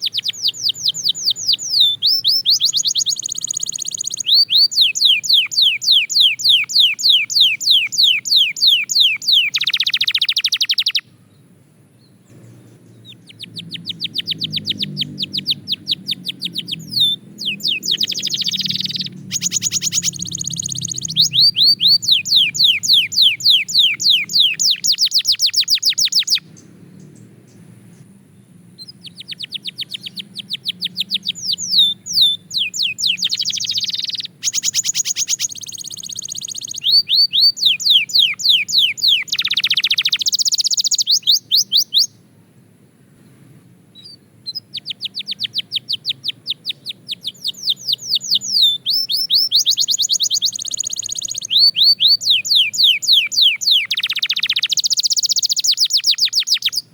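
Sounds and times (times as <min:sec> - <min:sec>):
canary singing trills: 0:00.0 - 0:27.8, 0:28.4 - 0:42.3, 0:43.9 - 0:56.9.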